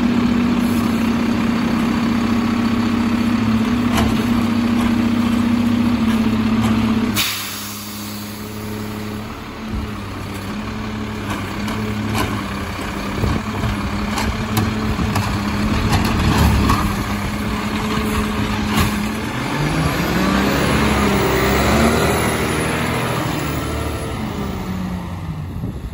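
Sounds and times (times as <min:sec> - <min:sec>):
garbage truck diesel engine: 0:00.0 - 0:25.9.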